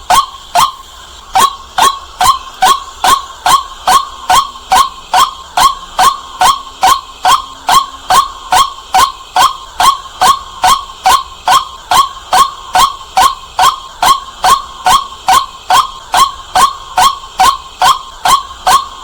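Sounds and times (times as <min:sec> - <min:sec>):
bird calling sharp notes: 0:00.0 - 0:19.0.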